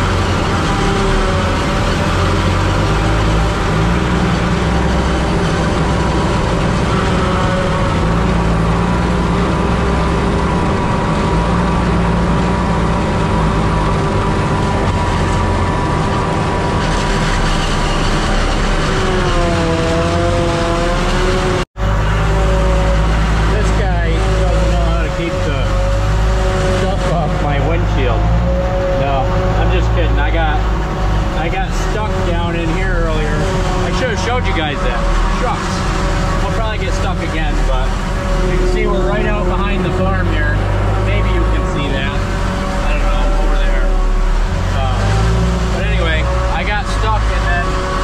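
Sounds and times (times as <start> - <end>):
forage harvester drone: 0.0 - 48.0
truck diesel engine: 0.0 - 48.0.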